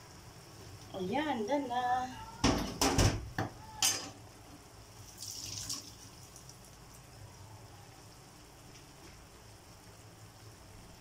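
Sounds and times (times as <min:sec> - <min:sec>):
sauce simmering and sizzling in a pan: 0:00.0 - 0:02.7, 0:03.3 - 0:11.0.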